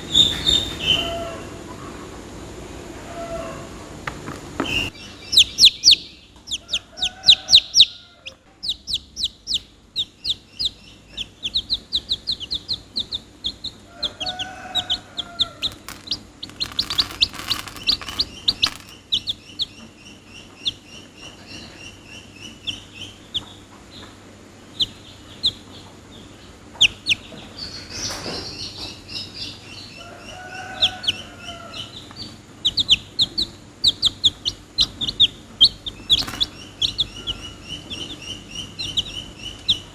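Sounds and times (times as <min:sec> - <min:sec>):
chicks peeping: 0:00.0 - 0:02.2, 0:04.6 - 0:39.9.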